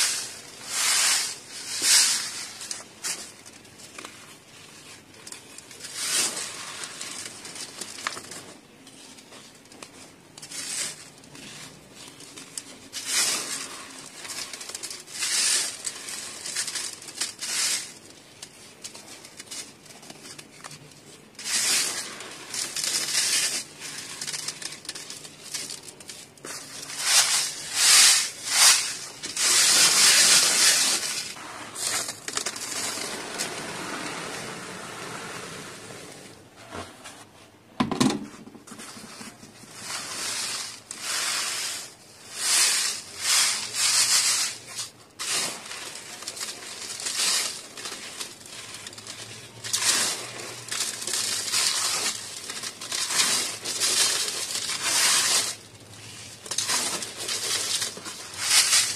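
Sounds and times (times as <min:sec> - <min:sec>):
dirt crunching against a sieve: 0:00.0 - 0:35.1, 0:38.6 - 0:58.9
steady sifting: 0:00.0 - 0:37.5, 0:38.6 - 0:58.9.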